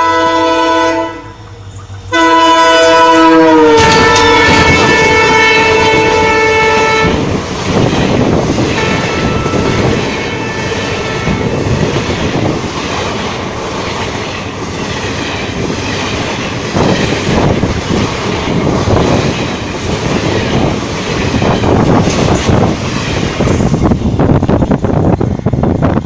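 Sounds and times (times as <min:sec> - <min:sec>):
train wheels clattering over rail joints: 0:03.8 - 0:25.2.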